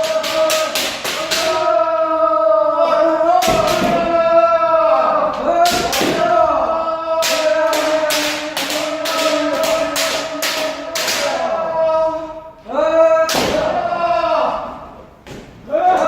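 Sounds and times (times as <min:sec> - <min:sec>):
group shouting together: 0:00.0 - 0:15.0, 0:15.6 - 0:16.0.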